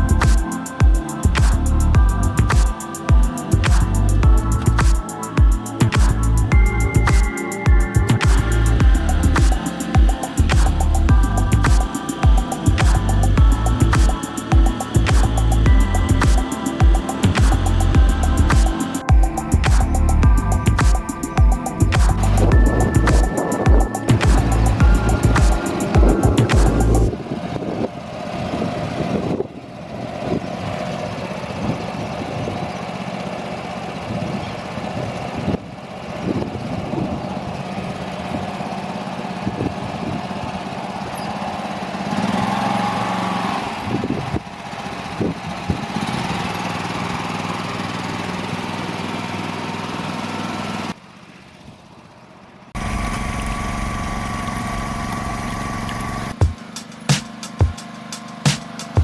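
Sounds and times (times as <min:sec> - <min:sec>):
rice transplanter engine running: 0:00.0 - 0:59.0.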